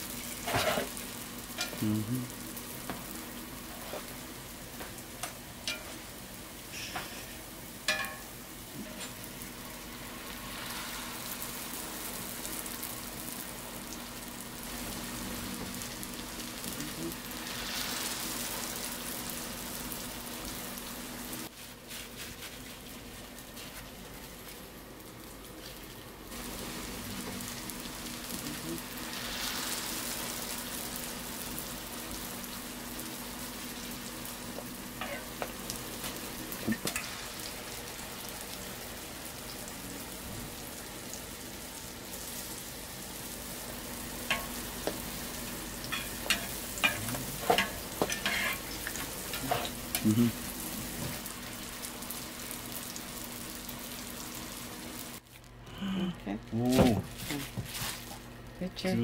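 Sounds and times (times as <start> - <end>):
food sizzling in oil: 0.0 - 55.2.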